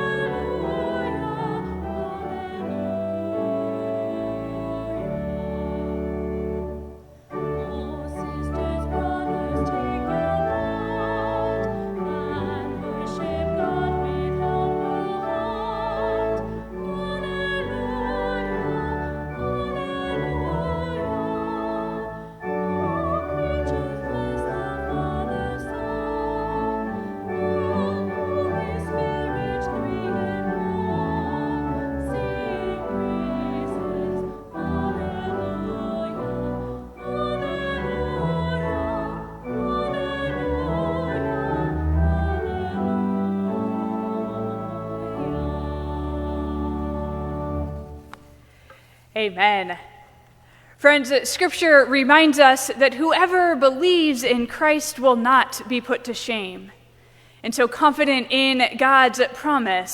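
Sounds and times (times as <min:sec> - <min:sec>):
instrumental accompaniment: 0:00.0 - 0:48.9
classical singing with vibrato: 0:00.0 - 0:59.9.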